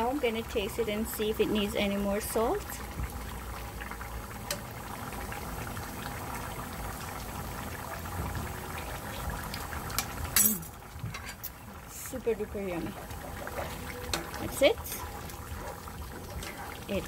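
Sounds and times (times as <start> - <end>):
sauce bubbling in a pan: 0.0 - 17.0.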